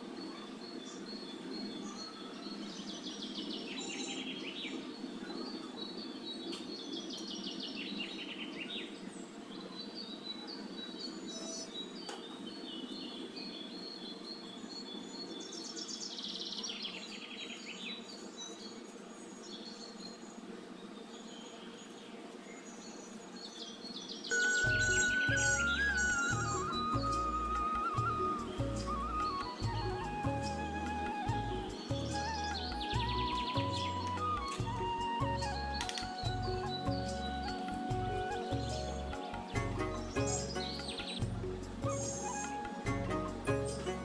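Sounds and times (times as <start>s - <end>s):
small birds singing: 0.0s - 44.0s.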